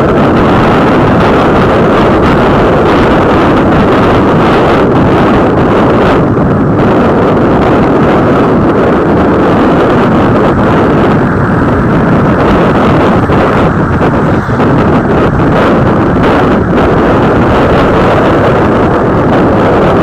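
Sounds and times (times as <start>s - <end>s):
motorcycle engine: 0.0s - 20.0s
wind buffeting microphone: 0.0s - 20.0s.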